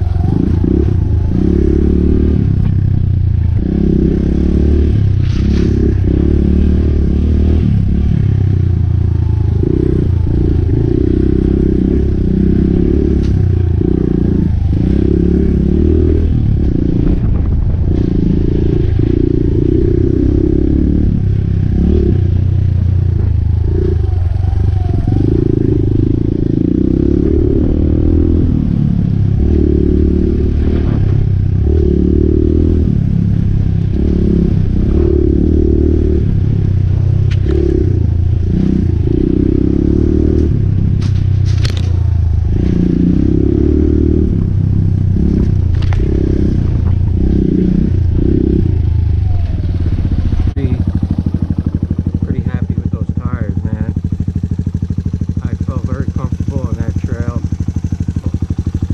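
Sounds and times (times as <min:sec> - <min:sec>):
motorcycle engine running: 0:00.0 - 0:58.9
motorcycle rattling over bumps: 0:00.0 - 0:58.9.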